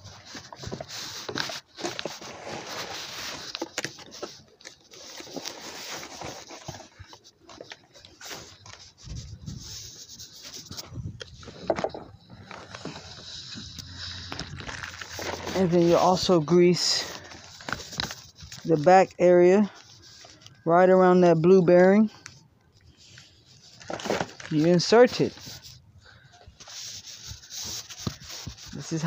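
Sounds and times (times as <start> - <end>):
scraping handling noises: 0.0 - 20.6, 22.2 - 29.0
plastic wrap crinkling: 0.1 - 18.9, 23.0 - 29.0.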